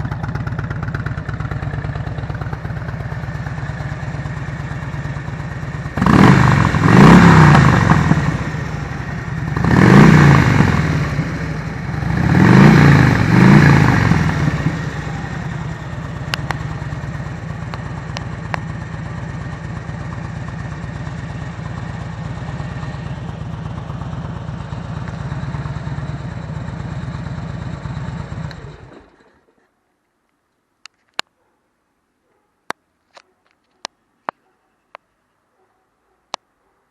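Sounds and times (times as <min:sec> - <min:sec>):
motorcycle engine idling and revving: 0:00.0 - 0:29.6.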